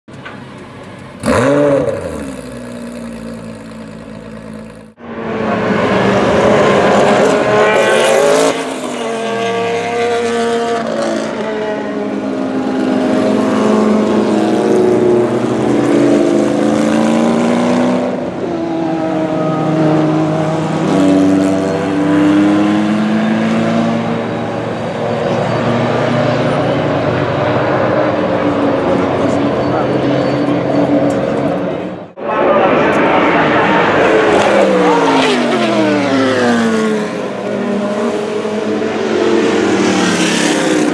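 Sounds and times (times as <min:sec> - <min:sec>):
race cars passing at full throttle: 0:00.1 - 0:40.9.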